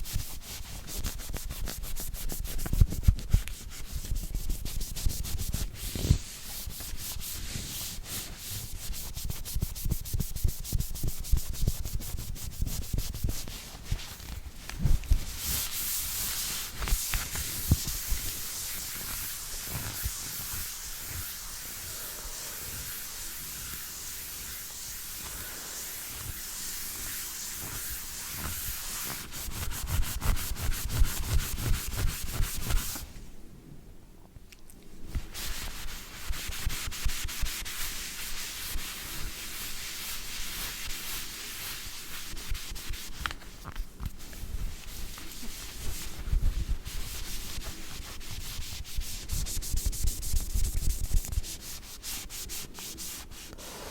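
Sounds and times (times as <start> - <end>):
brush scrubbing a surface: 0.0 - 33.1, 35.2 - 53.9.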